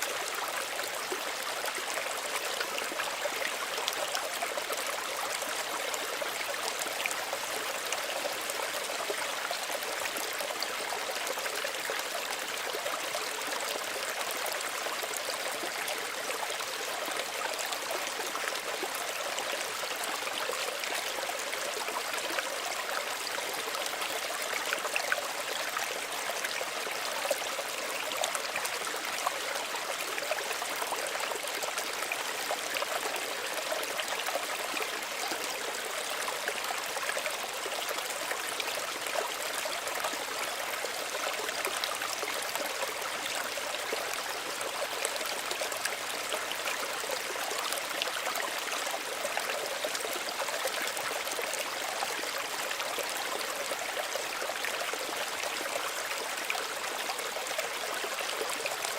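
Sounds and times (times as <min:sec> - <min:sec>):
stream trickling and gurgling: 0:00.0 - 0:58.9.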